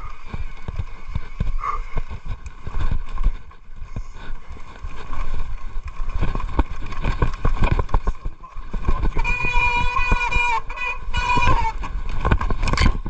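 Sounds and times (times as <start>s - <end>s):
bike clattering over roots: 0.0s - 13.0s
tyre noise and wind rumble: 0.0s - 13.0s.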